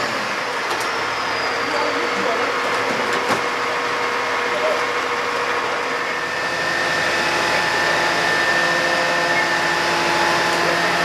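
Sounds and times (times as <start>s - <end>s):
ladder engine and hydraulic whirr: 0.0s - 11.0s.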